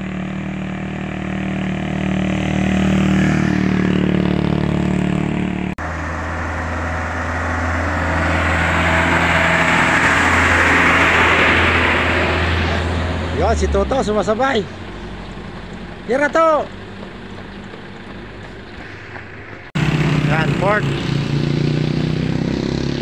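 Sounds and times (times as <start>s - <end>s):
truck passing: 0.0s - 23.0s
vehicle engine running: 0.0s - 23.0s.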